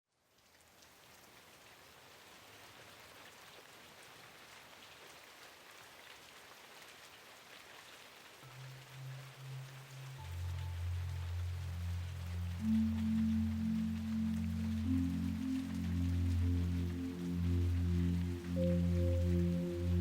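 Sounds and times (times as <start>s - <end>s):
soft rain: 0.1s - 20.0s.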